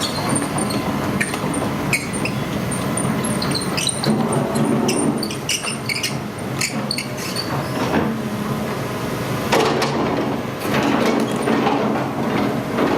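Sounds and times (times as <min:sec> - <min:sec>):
excavator diesel engine running: 0:00.0 - 0:12.9.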